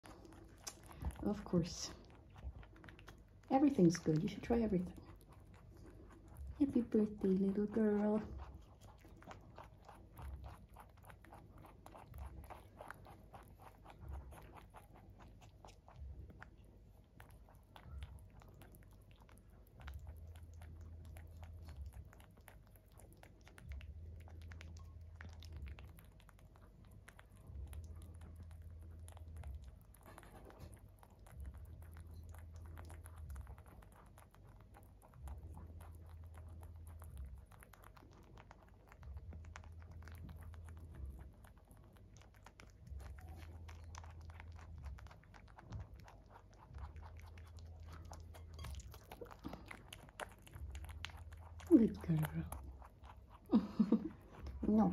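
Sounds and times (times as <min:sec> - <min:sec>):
low hum: 0:00.0 - 0:54.9
rabbit chewing: 0:00.0 - 0:54.9.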